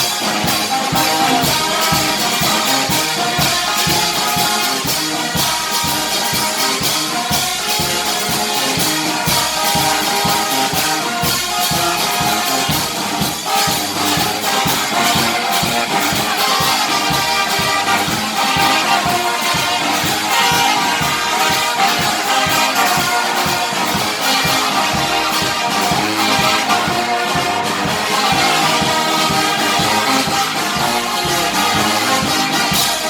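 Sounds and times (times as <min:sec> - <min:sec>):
lively worship music: 0:00.0 - 0:33.0
steady drum beat: 0:00.0 - 0:33.0.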